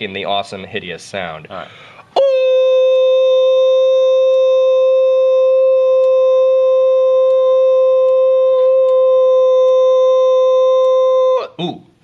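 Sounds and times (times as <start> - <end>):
man singing a long high note: 2.2 - 11.8.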